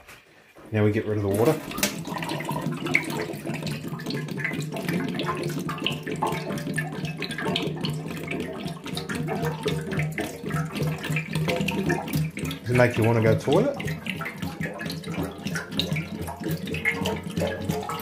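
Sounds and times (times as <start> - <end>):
water pouring into a sink: 1.0 - 18.0.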